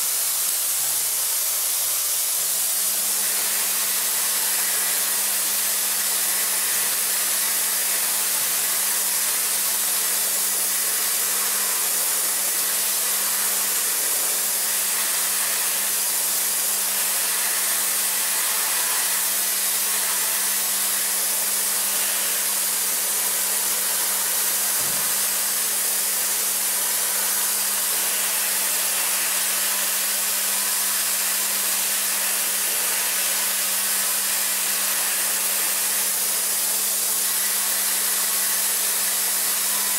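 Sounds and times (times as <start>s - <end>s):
milling machine hiss: 0.0s - 39.9s.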